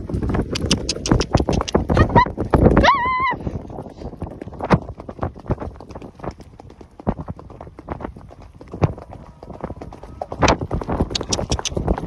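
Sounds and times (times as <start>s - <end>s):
hoofbeats on dirt track: 0.0s - 12.0s.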